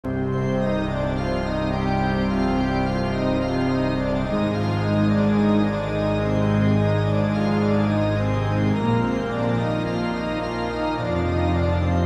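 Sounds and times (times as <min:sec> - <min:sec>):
organ chords: 0:00.1 - 0:12.0.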